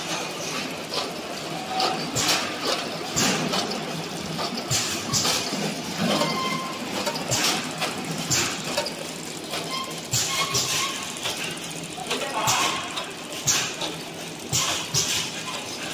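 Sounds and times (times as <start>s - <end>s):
conveyor machine mechanical clatter: 0.0s - 15.9s.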